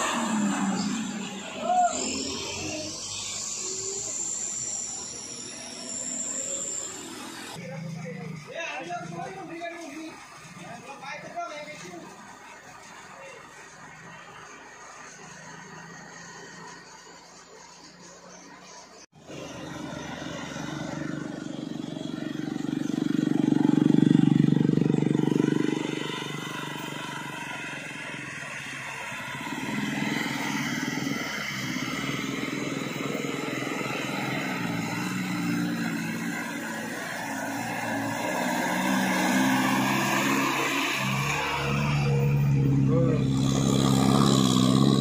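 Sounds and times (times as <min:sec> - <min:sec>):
bus engine pulling uphill: 0:00.0 - 0:45.0
vehicle engines: 0:00.0 - 0:45.0.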